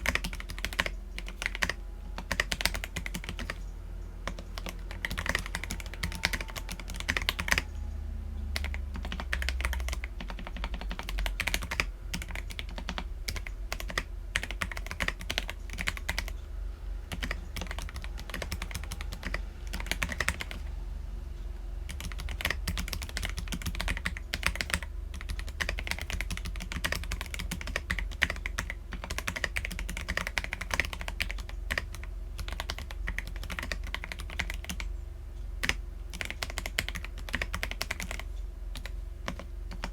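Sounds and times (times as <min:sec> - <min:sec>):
mechanical keyboard typing: 0:00.0 - 0:16.4, 0:17.1 - 0:20.7, 0:21.9 - 0:34.9, 0:35.6 - 0:39.9.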